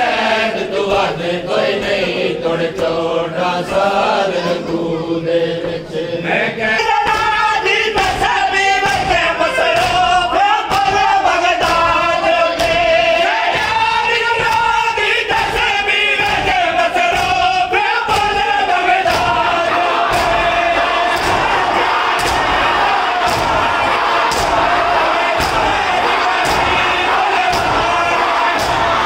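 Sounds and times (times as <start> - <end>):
crowd shouting: 0.0 - 29.0
men chanting in unison: 0.0 - 29.0
rhythmic chest-beating slaps: 0.0 - 29.0.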